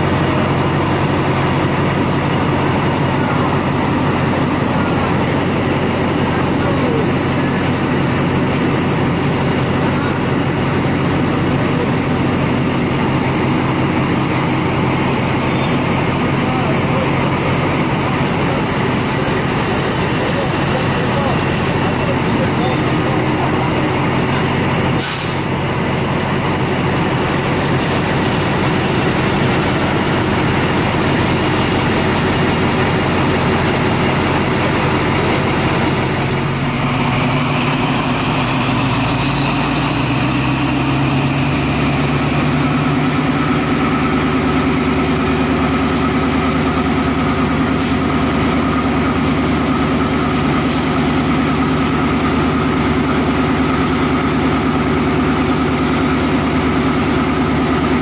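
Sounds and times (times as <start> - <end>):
diesel locomotive engine running: 0.0 - 58.0
engine whine climbing in pitch: 0.0 - 58.0.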